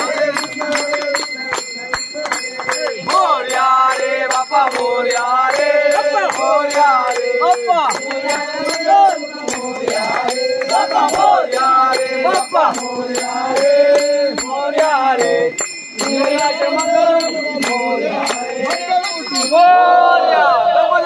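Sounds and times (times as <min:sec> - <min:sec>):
jingling metal percussion: 0:00.0 - 0:20.0
group singing a chant: 0:00.0 - 0:21.0.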